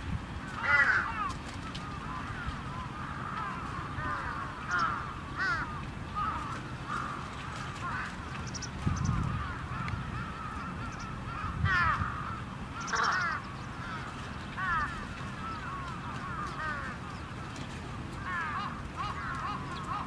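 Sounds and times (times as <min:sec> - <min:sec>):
crows cawing: 0:00.6 - 0:17.5, 0:18.2 - 0:20.0.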